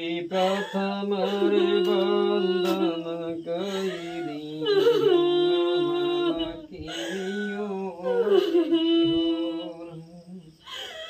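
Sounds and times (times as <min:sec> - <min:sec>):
person singing folk song: 0:00.0 - 0:11.0.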